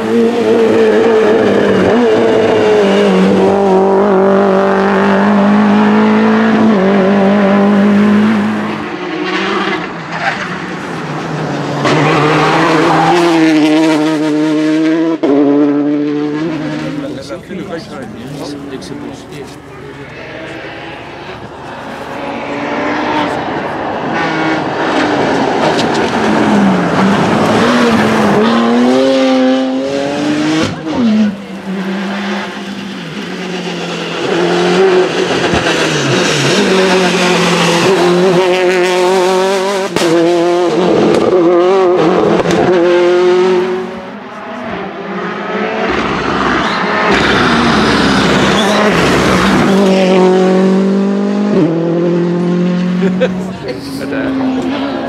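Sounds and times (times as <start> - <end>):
rally cars revving past: 0.0 - 55.0.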